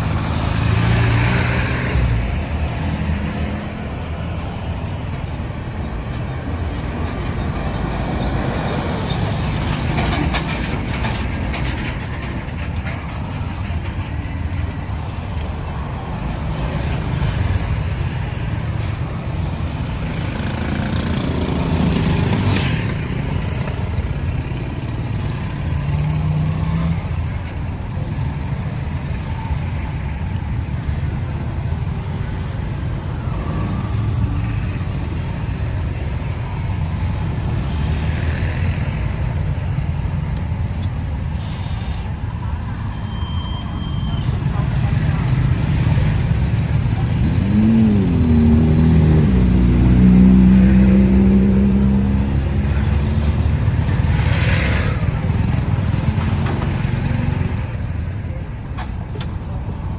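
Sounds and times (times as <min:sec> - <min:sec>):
loud vehicle passing with hiss: 0:00.0 - 0:11.3, 0:14.9 - 0:58.0
road traffic passing: 0:00.0 - 0:59.9.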